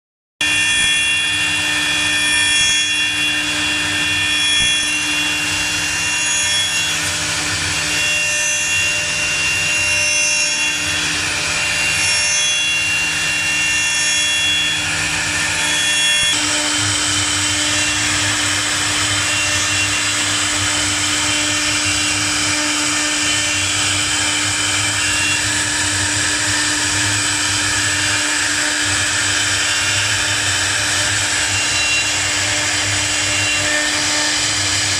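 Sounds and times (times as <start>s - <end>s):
router spindle whining: 0.4s - 34.9s
spindles engraving panel: 0.4s - 34.9s.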